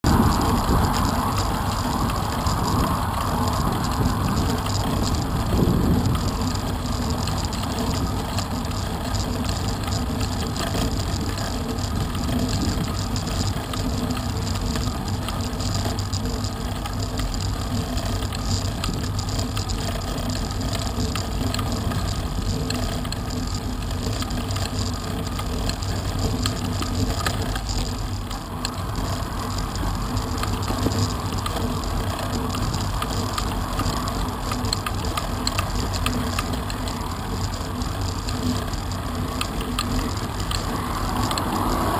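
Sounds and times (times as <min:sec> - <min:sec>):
wind rumble on microphone: 0:00.0 - 0:41.9.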